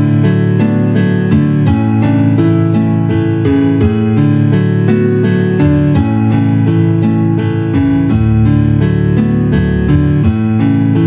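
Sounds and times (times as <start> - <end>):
steady chord bed: 0.0 - 11.0.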